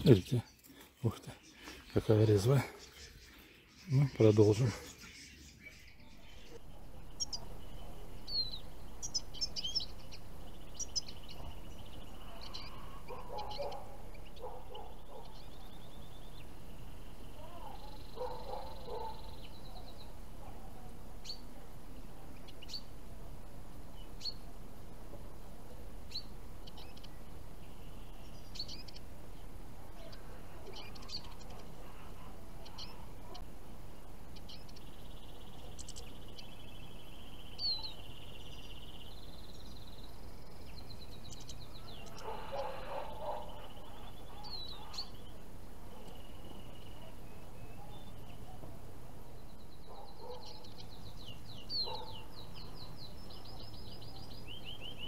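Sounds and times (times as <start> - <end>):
finches chirping: 0.0 - 55.0.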